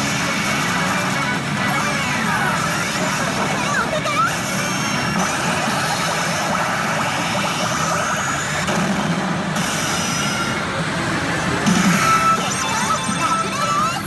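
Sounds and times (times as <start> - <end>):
pachinko machines clattering: 0.0 - 14.0.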